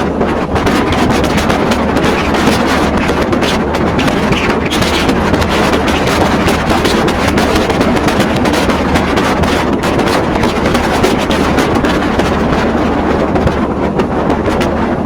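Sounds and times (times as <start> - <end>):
ticking clatter of wheels: 0.0 - 15.0
train wheels rumbling on rails: 0.0 - 15.0.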